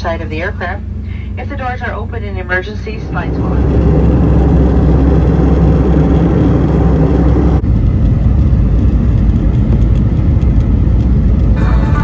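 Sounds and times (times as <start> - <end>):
airliner engines rumbling in cabin: 0.0 - 12.0.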